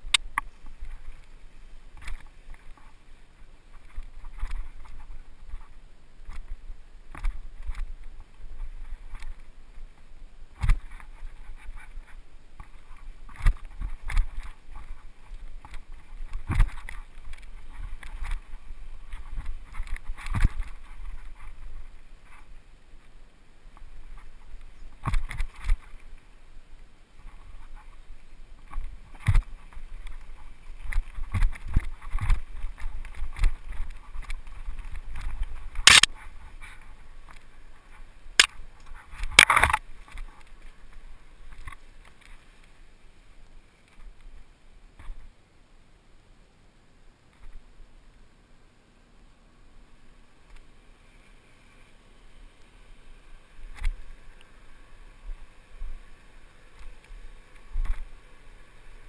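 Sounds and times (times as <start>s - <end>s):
bike tyre noise on dirt: 0.0s - 59.0s.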